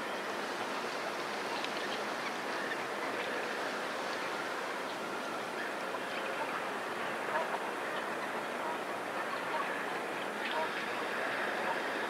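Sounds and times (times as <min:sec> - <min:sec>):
steady hiss: 0:00.0 - 0:12.0
geese calling: 0:01.4 - 0:12.0.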